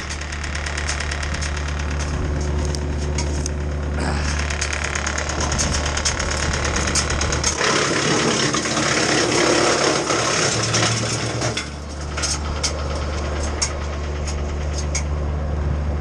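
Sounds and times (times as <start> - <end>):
wood clicking against machine: 0.0 - 15.1
wood chipper engine hum: 0.0 - 16.0.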